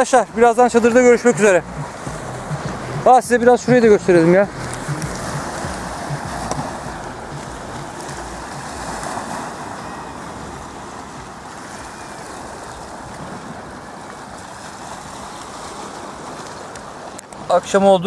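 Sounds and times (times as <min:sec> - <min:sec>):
waves lapping on shingle: 0:00.0 - 0:18.0
wind buffeting microphone: 0:00.3 - 0:17.1.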